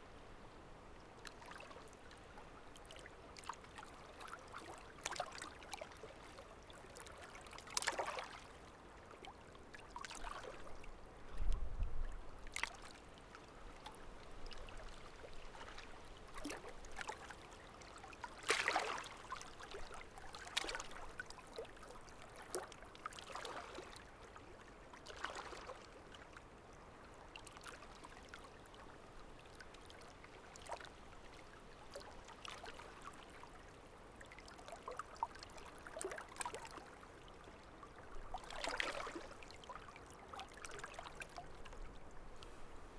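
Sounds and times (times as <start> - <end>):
stream trickling and splashing: 0.0 - 42.9.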